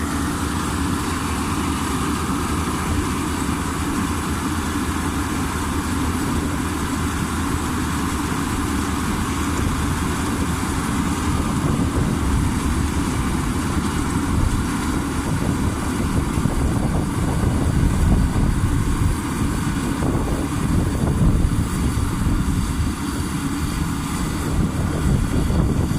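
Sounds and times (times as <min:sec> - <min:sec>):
combine harvester engine: 0:00.0 - 0:25.9.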